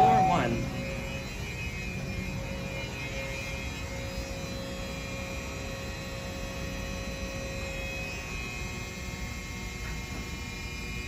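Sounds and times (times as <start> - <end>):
faint whining tones: 0.0 - 9.8
low mechanical hum: 0.0 - 11.0.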